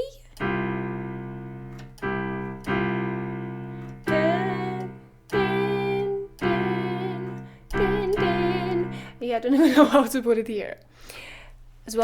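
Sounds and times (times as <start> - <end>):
piano chords ringing: 0.0 - 10.5.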